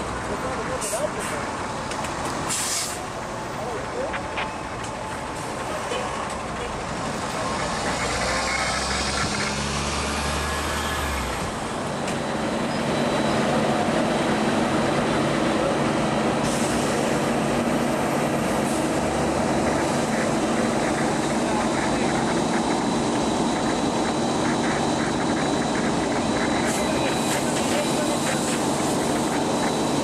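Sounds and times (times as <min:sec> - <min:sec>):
fire engine engine running: 0:00.0 - 0:30.0.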